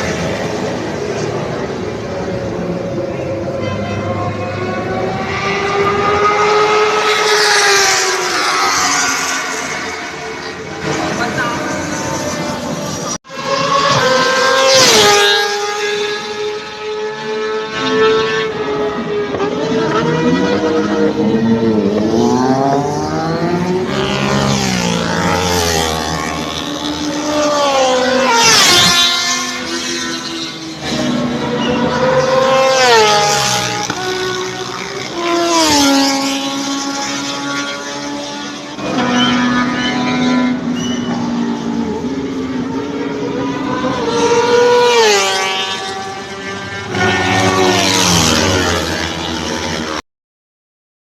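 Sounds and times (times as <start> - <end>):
racing engines passing: 0.0 - 50.0.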